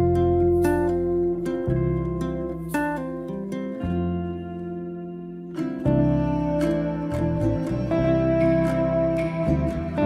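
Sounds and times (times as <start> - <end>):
plucked-string melody: 0.0 - 10.0.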